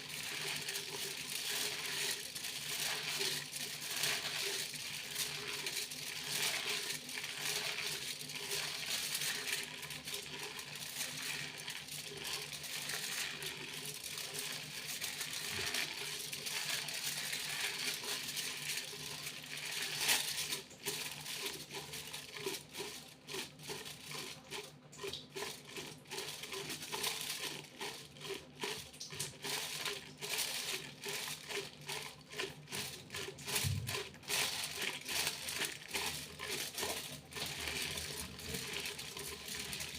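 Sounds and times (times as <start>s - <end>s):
aluminium foil crinkling: 0.0s - 39.9s.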